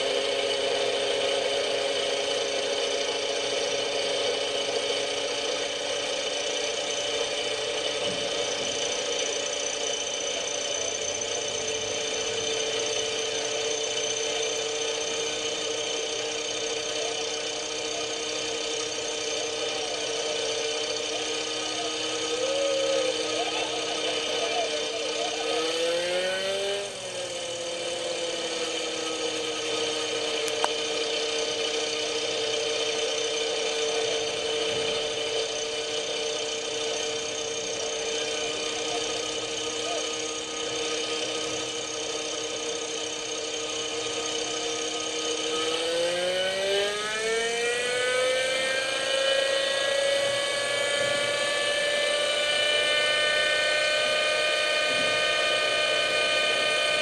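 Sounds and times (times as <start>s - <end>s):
model helicopter engine whine: 0.0s - 57.0s.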